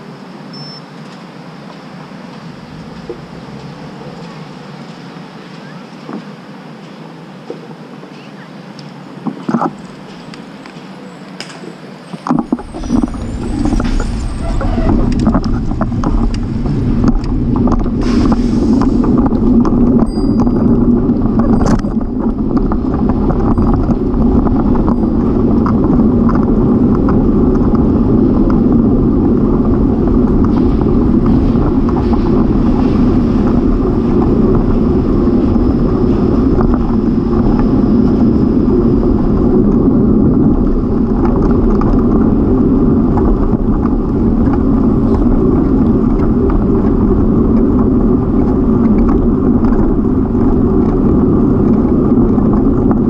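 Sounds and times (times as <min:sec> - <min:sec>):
wind rumble: 0:00.0 - 0:53.0
bicycle tyre noise: 0:08.8 - 0:53.0.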